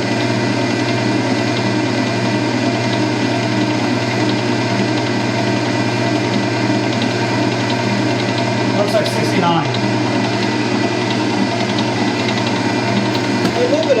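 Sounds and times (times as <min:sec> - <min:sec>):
stand mixer motor humming: 0:00.0 - 0:14.0.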